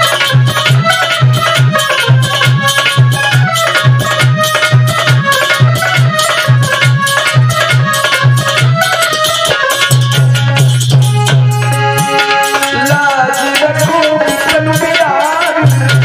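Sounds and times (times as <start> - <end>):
deep dholak drum strokes: 0.0 - 16.0
harmonium melody: 0.0 - 16.0.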